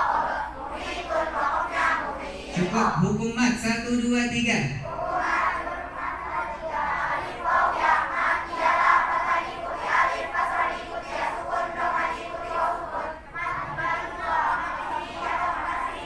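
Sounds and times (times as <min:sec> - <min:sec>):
children reciting in unison: 0:00.0 - 0:16.0.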